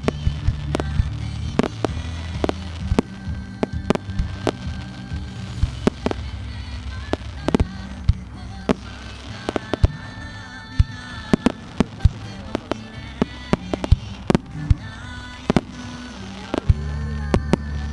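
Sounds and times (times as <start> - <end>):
fireworks bursting: 0.0 - 17.9
music playing: 0.0 - 17.9.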